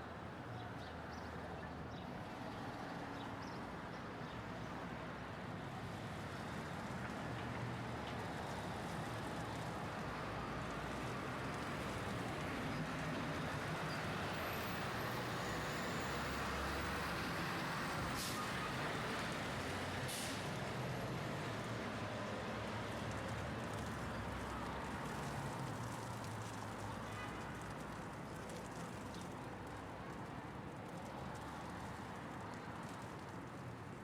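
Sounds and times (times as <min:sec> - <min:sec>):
rumble of road traffic: 0:00.0 - 0:34.0.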